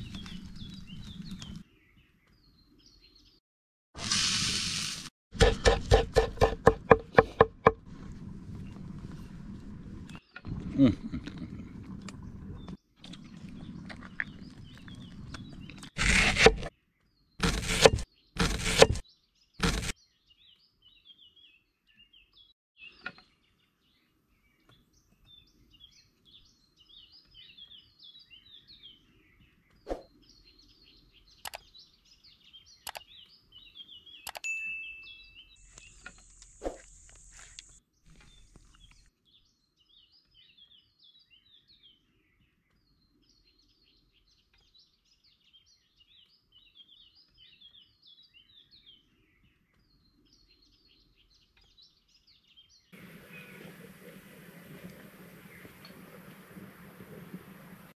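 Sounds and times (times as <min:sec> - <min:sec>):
small birds chirping: 0:00.0 - 0:03.4, 0:08.4 - 0:57.8.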